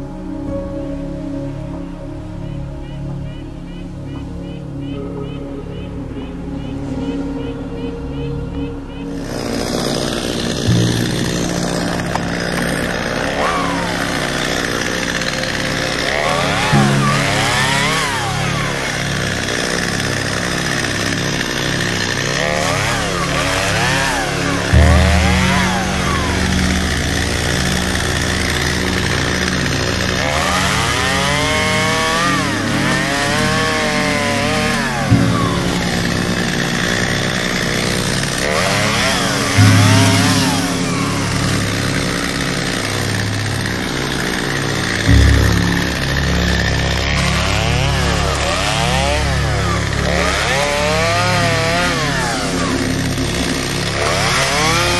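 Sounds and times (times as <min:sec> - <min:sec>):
chainsaw cutting branches: 0:09.1 - 0:54.9.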